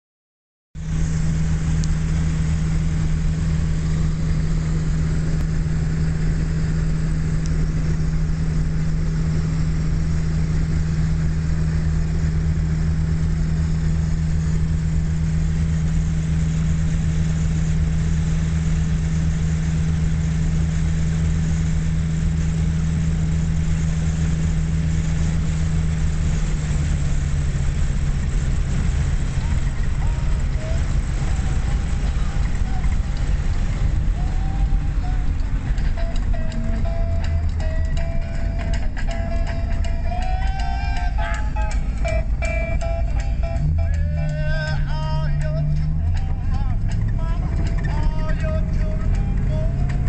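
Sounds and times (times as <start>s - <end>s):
car engine humming from inside cabin: 0.8s - 50.0s.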